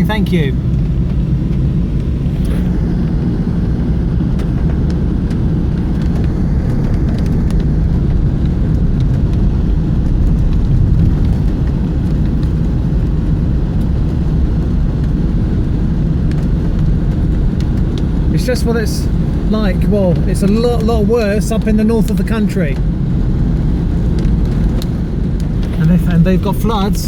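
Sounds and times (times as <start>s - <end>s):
car road and engine rumble: 0.0s - 27.0s
rain ticking on car: 0.0s - 27.0s.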